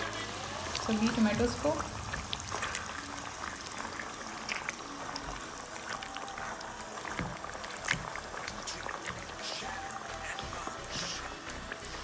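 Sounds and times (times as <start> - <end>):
food simmering in a pan: 0.0 - 12.0
spatula mashing tomatoes: 0.0 - 12.0.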